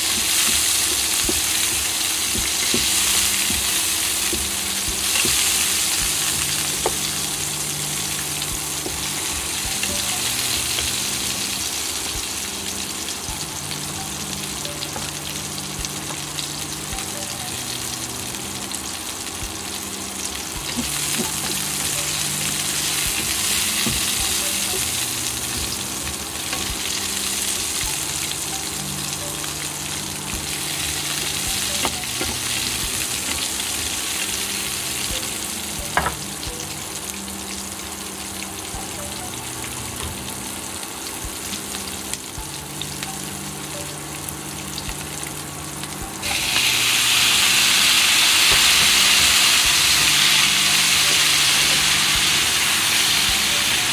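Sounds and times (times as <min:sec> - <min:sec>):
onions sizzling in a frying pan: 0:00.0 - 0:53.9.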